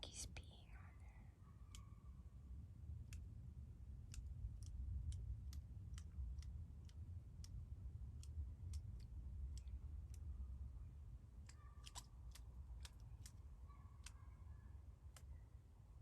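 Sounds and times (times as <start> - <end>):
low steady rumble: 0.0 - 16.0
faint sharp clicks: 2.9 - 15.9.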